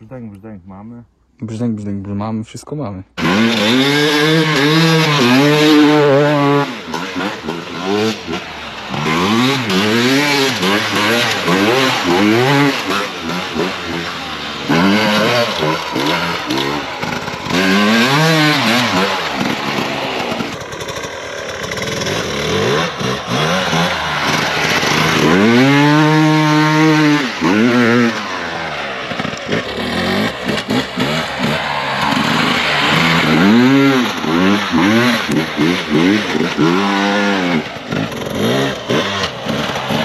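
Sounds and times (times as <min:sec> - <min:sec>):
wind: 0:00.0 - 0:40.0
dirt bike engine revving: 0:03.2 - 0:40.0
tyre noise: 0:03.2 - 0:40.0.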